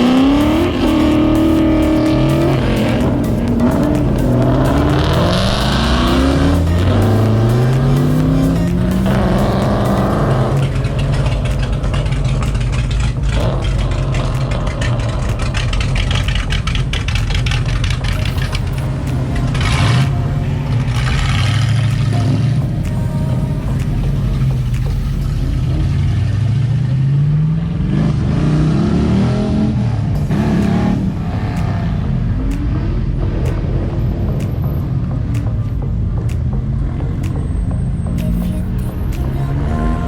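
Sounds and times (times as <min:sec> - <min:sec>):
car engine revving: 0:00.0 - 0:40.0
noisy rush: 0:00.0 - 0:40.0.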